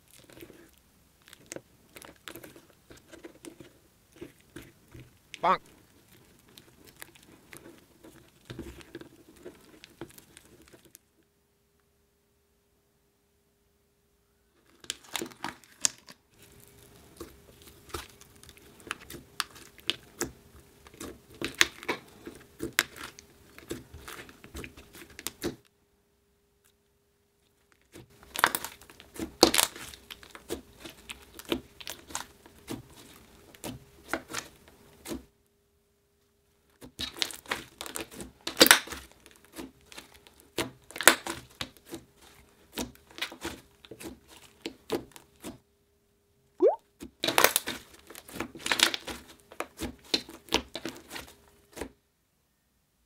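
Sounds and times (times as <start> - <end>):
slime squishing and crackling: 0.0 - 11.0, 14.6 - 25.6, 27.8 - 35.3, 36.7 - 45.5, 46.6 - 51.8.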